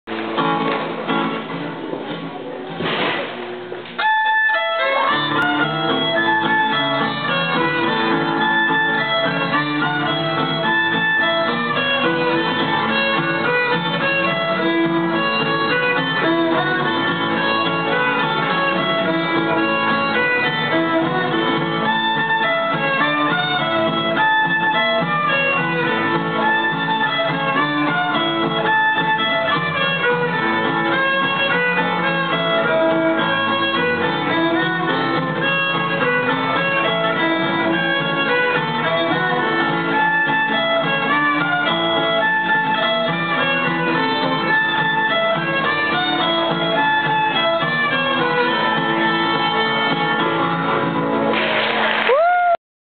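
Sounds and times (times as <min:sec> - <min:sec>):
fiddle tune: 0:00.0 - 0:02.8, 0:03.5 - 0:52.2
acoustic guitars playing rhythm: 0:00.0 - 0:52.0.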